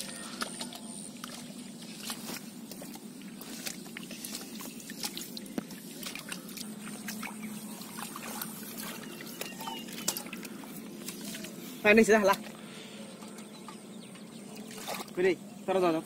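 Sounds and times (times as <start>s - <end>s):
hands splashing in muddy water: 0.0s - 12.5s, 14.6s - 15.2s
water drips: 0.0s - 12.6s, 13.2s - 15.2s.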